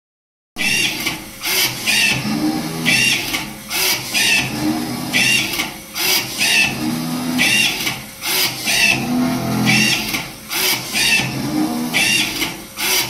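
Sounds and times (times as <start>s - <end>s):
machine mechanical clatter: 0.8s - 13.0s.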